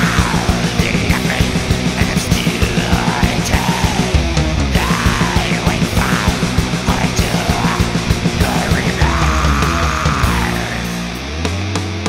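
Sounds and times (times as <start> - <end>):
fast drum hits: 0.0 - 11.1
heavy metal music: 0.0 - 12.0.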